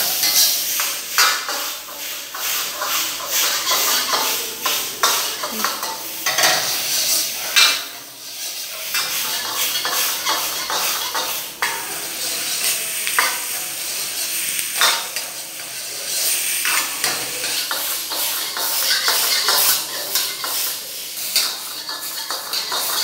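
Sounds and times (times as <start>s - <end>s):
food sizzling in wok: 0.0s - 23.0s
metal ladle scraping wok: 0.1s - 13.3s, 16.2s - 23.0s.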